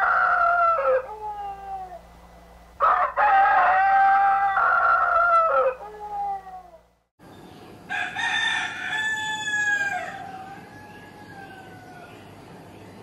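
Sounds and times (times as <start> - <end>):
rooster crowing: 0.0 - 2.1, 2.8 - 6.9, 7.9 - 12.8.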